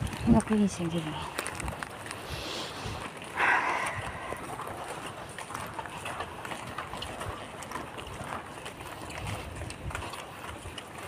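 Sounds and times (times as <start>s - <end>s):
shuffling footsteps on wet road: 0.0s - 11.0s.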